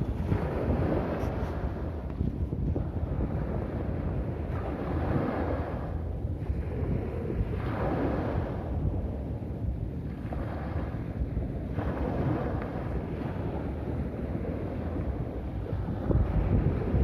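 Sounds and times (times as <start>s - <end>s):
sea waves washing onto beach: 0.0s - 17.0s
wind buffeting microphone: 0.0s - 17.0s.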